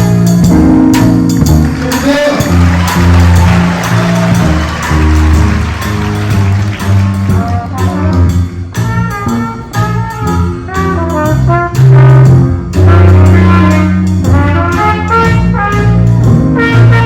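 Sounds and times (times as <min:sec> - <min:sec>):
school band playing: 0:00.0 - 0:17.0.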